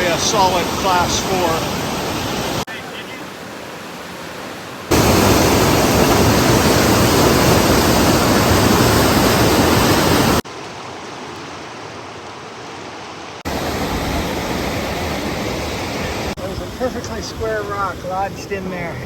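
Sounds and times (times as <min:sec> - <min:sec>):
rushing whitewater rapid: 0:00.0 - 0:19.0.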